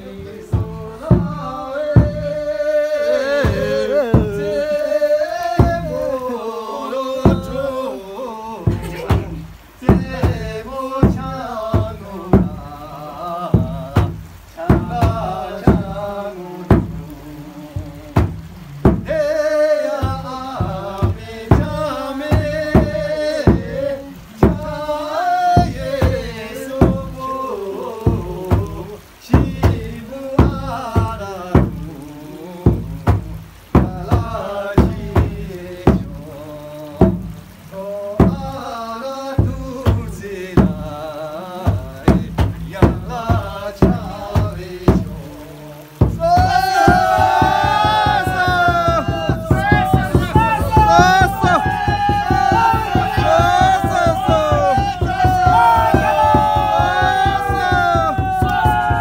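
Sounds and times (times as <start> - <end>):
sharp rhythmic knocks: 0.0 - 6.3, 7.2 - 7.8, 8.6 - 27.4, 28.0 - 59.0
group singing: 0.0 - 59.0.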